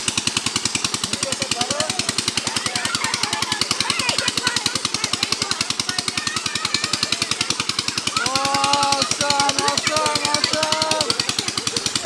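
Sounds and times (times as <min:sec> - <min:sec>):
motor with fast knocking beat: 0:00.0 - 0:12.0.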